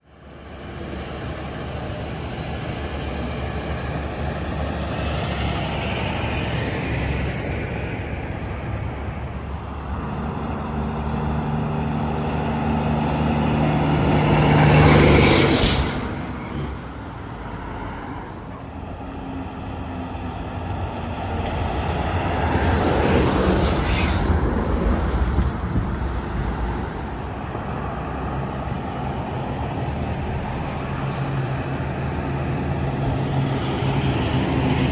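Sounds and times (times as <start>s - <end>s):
highway traffic: 0.0s - 34.9s
truck engine drone: 0.3s - 34.9s.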